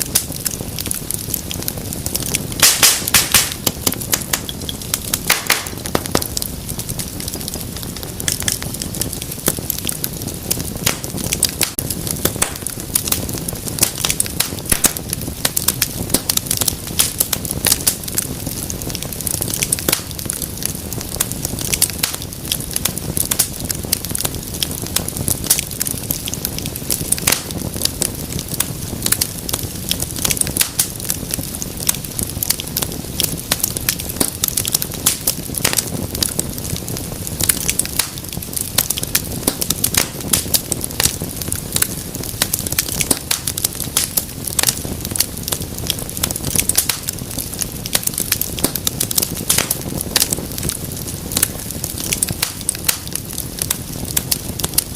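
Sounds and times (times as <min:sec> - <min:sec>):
fire crackling and popping: 0:00.0 - 0:54.9
low rush of flame: 0:00.0 - 0:54.9.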